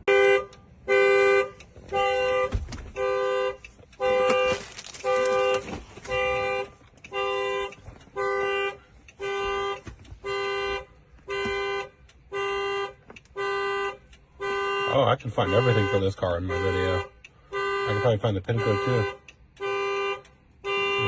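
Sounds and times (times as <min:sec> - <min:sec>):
two-tone car horn honking: 0:00.0 - 0:21.0.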